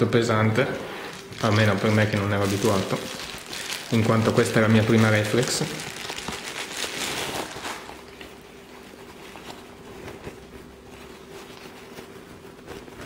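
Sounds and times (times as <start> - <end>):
soft wrapping rustling: 0.5 - 13.0
packing wrap crinkle: 1.0 - 13.0.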